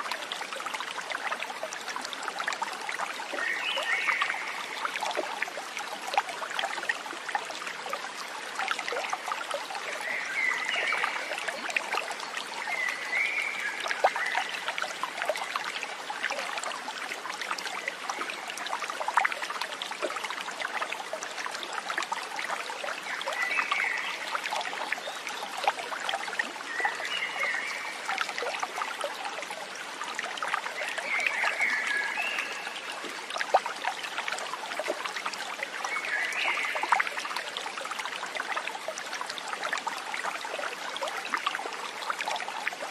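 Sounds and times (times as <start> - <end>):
stream trickling and splashing: 0.0 - 42.9.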